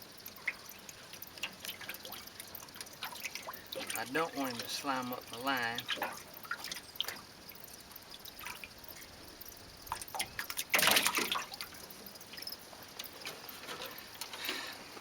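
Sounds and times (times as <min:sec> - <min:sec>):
small ticks and knocks: 0:00.0 - 0:15.0
water dripping and trickling: 0:00.0 - 0:15.0.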